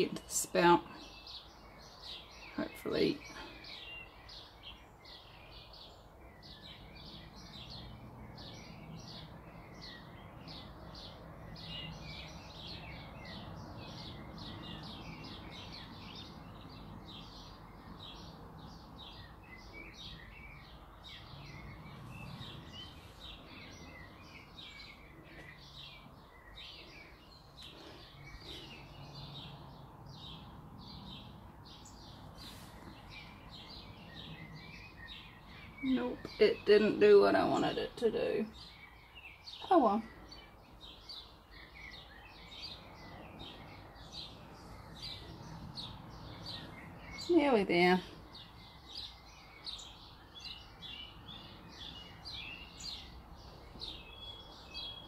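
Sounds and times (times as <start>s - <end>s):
birds chirping rapidly: 0.0s - 55.0s.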